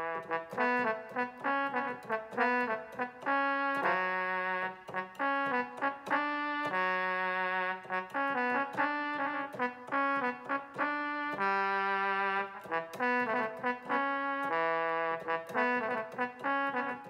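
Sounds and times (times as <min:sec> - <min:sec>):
synthesizer brass melody: 0:00.0 - 0:17.0.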